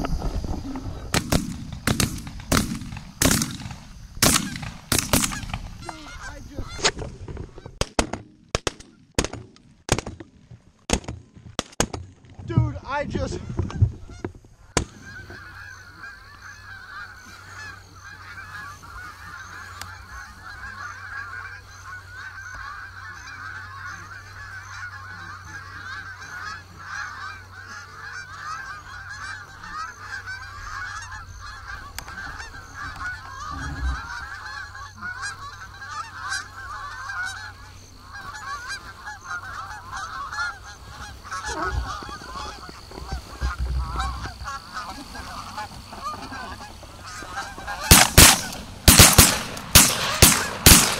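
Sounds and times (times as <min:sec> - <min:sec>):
geese honking: 0:00.8 - 0:07.8, 0:12.9 - 0:50.9.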